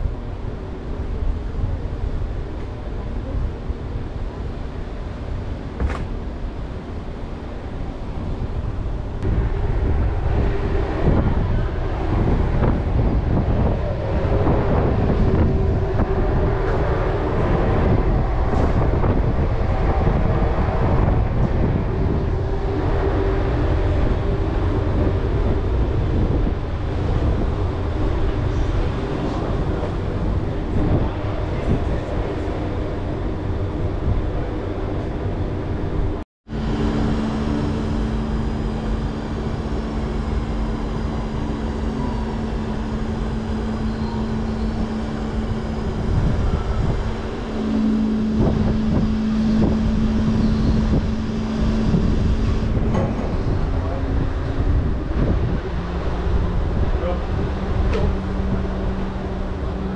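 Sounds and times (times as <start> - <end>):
ferry machinery rumble: 0.0 - 59.9
steady hum: 0.0 - 59.9
wind on microphone: 0.0 - 59.9.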